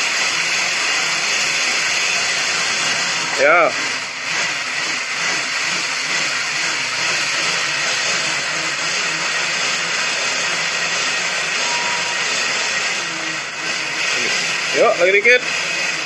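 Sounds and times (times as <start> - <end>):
bike tyre whirring on trainer roller: 0.0 - 16.0.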